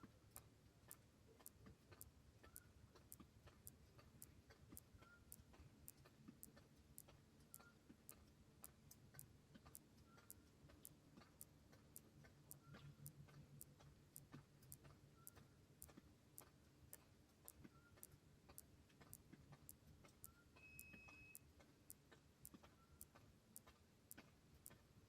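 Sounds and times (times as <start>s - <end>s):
faint even ticking: 0.0s - 24.9s.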